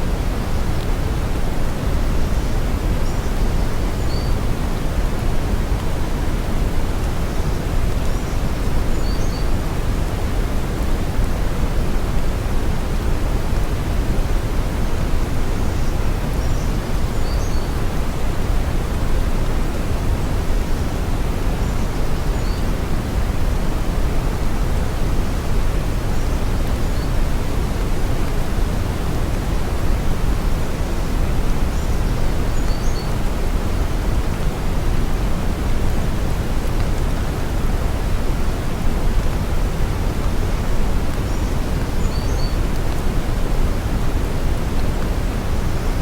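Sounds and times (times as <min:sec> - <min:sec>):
brown noise hiss: 0:00.0 - 0:46.0.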